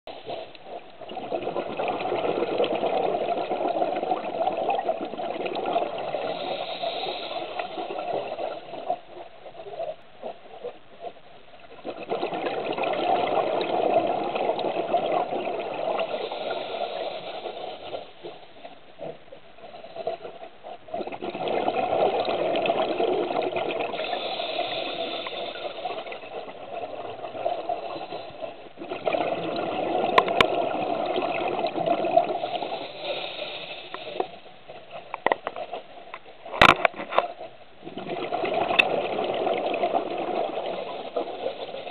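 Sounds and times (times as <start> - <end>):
scuba exhaust bubbles underwater: 0.1 - 41.9.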